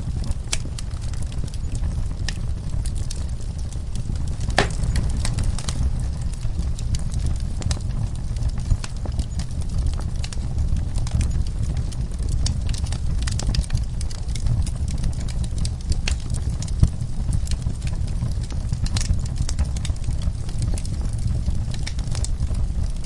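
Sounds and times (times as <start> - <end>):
fire low rumble: 0.0 - 23.0
wood fire crackling and popping: 0.0 - 23.0.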